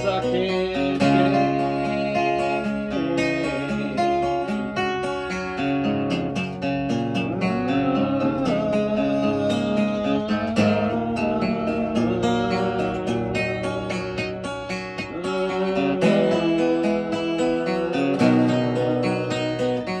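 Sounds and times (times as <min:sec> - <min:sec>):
guitar playing with note bends: 0:00.0 - 0:20.0.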